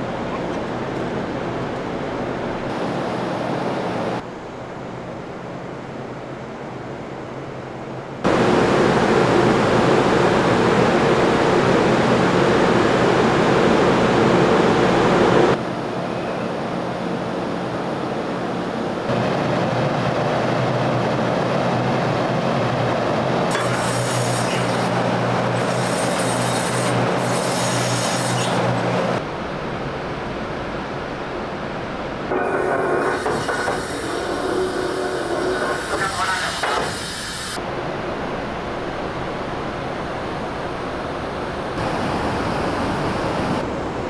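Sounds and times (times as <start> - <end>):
ship engines roaring: 0.0 - 44.0.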